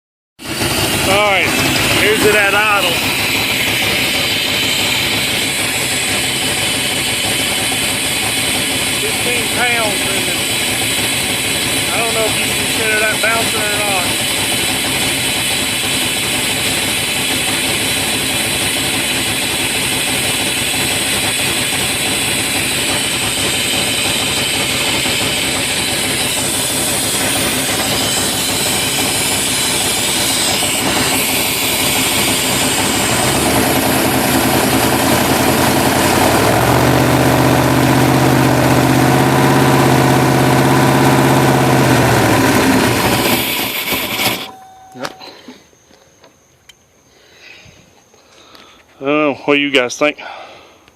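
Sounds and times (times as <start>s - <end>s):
truck engine revving: 0.4s - 44.6s.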